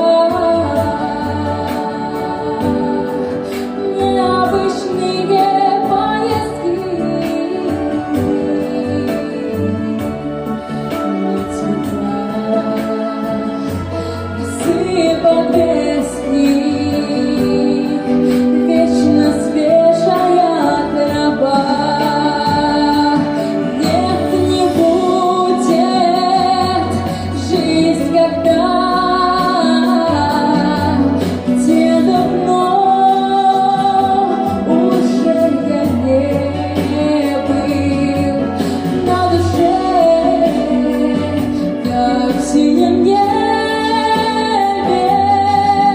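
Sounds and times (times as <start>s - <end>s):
instrumental accompaniment with bass: 0.0s - 45.9s
woman singing: 0.0s - 45.9s.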